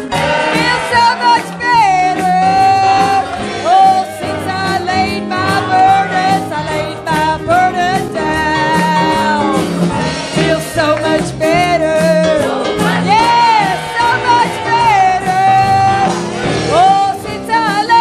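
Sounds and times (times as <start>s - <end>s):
band with guitar and beat: 0.0s - 18.0s
person singing gospel melody: 0.0s - 18.0s.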